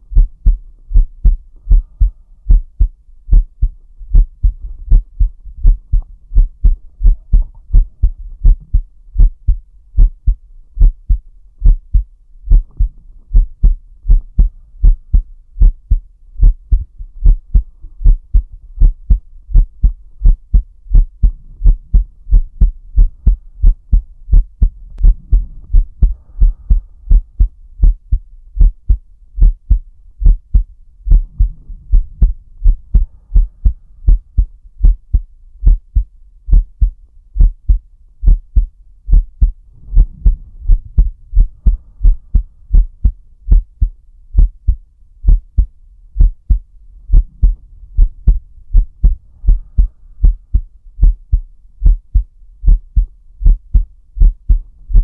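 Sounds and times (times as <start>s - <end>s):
human heartbeat: 0.0s - 55.0s.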